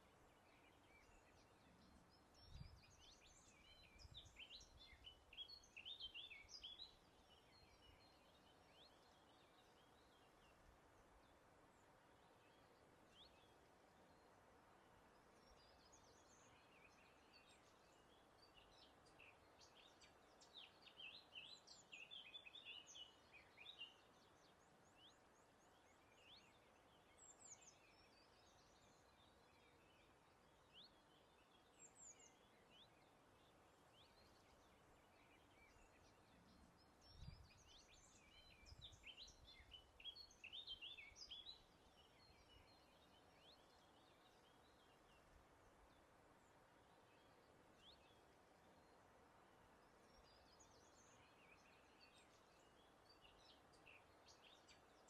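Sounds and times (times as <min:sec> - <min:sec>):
soft hiss of breeze: 0:00.0 - 0:55.0
songbirds chirping and trilling: 0:00.0 - 0:55.0.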